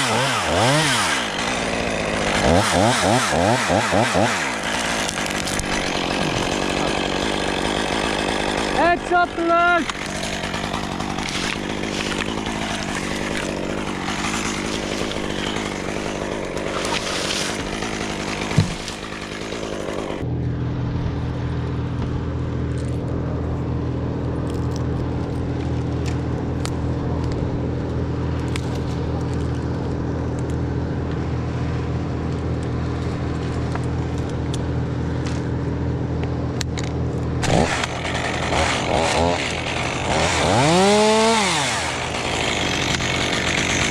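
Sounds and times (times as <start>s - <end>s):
chainsaw running: 0.0s - 20.3s, 24.3s - 43.9s
steady engine drone: 0.0s - 43.9s.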